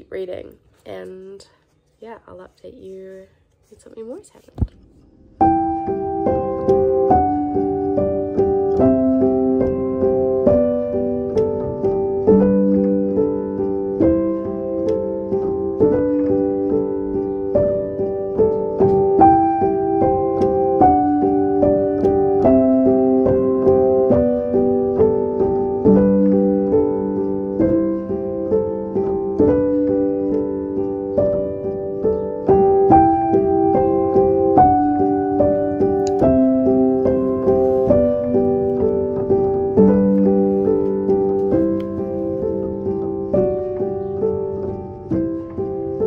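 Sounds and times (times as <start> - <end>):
soft solo piano melody: 4.4 - 46.0.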